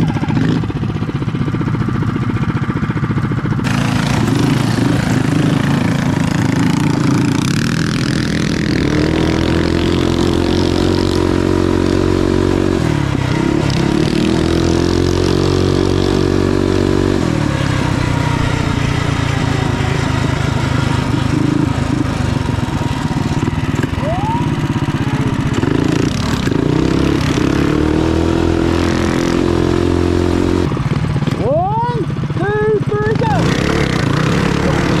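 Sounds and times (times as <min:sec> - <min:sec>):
mini bike engine revving: 0:00.0 - 0:35.0.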